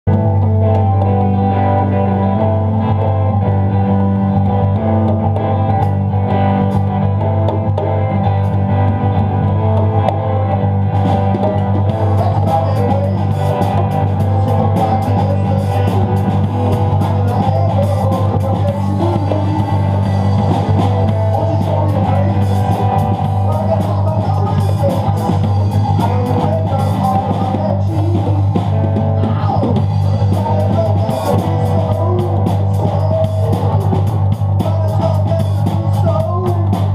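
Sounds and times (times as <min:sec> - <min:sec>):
rock music guitar and drums: 0:00.0 - 0:36.9
heavy low drone: 0:00.1 - 0:36.9.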